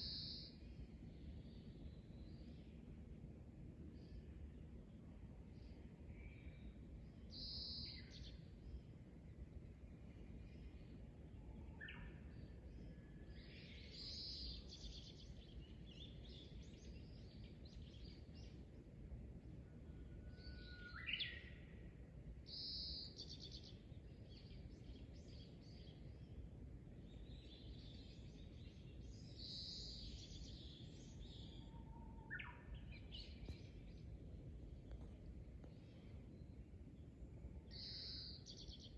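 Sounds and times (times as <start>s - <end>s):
faint low background hum: 0.0s - 38.9s.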